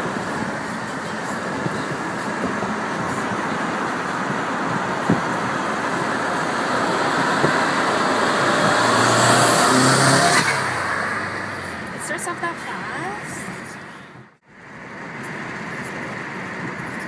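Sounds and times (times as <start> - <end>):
car exhaust passing: 0.0 - 17.0
road and wind noise: 0.0 - 17.0.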